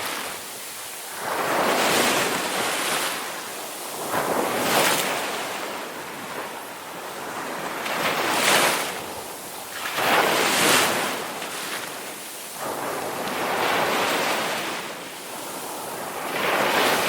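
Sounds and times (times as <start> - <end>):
ocean waves surging: 0.0 - 17.0.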